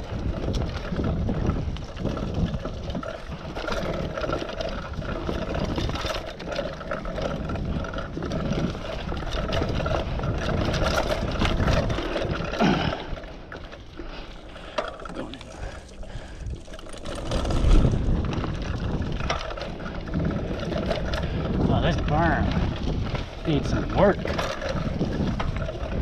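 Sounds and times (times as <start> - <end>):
bike rattling over bumps: 0.0 - 26.0
wind rumble on microphone: 0.0 - 26.0.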